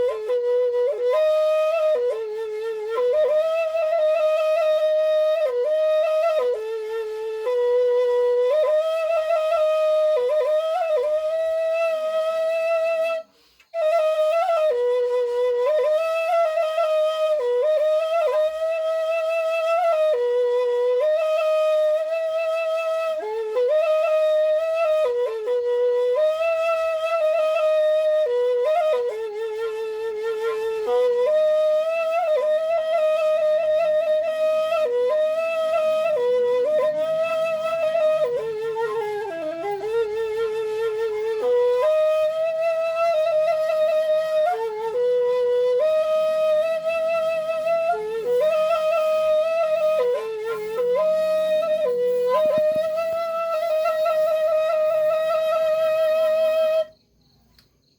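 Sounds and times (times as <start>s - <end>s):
bamboo flute melody: 0.0s - 57.8s.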